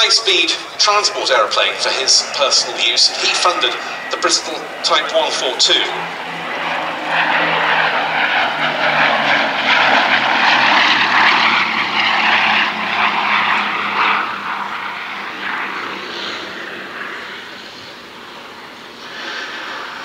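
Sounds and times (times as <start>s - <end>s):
aircraft radial engines flying past: 0.0s - 20.0s.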